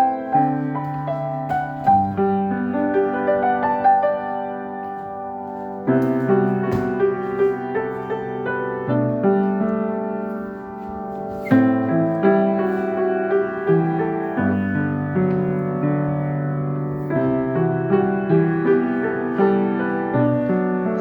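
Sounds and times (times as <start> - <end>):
solo piano: 0.0 - 21.0.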